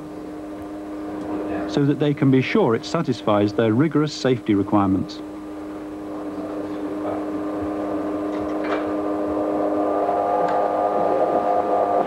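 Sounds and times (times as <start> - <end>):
hum of held tones: 0.0 - 12.0.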